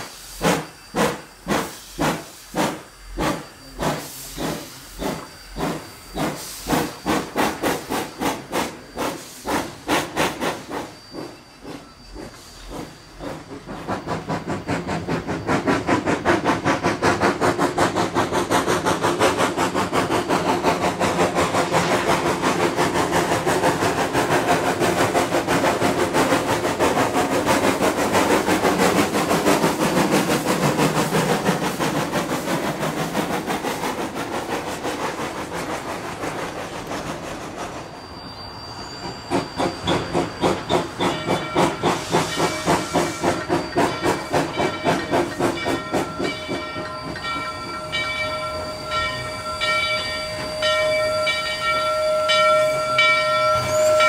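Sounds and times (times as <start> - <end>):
steam hissing: 0.0 - 54.0
steam locomotive chuffing: 0.0 - 54.0.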